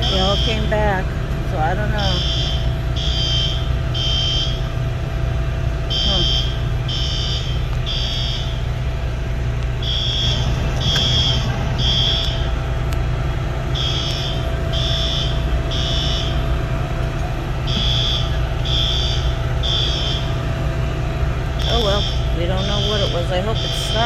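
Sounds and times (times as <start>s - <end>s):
fire alarm beeping: 0.0s - 24.0s
low rumble: 0.0s - 24.0s.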